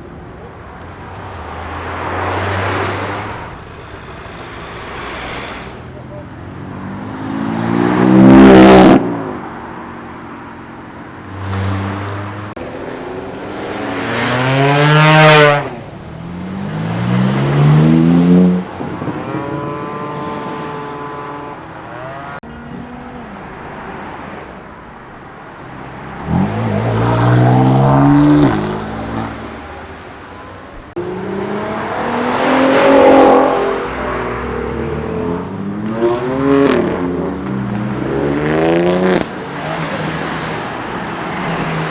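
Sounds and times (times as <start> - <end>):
cars accelerating hard past: 1.0 - 10.4, 11.2 - 22.4, 25.7 - 30.1, 30.9 - 41.9.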